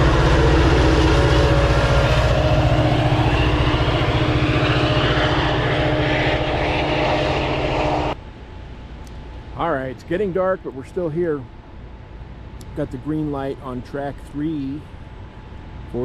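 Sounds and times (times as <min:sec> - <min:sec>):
diesel locomotive engine throb: 0:00.0 - 0:16.0
steady hum: 0:00.0 - 0:16.0.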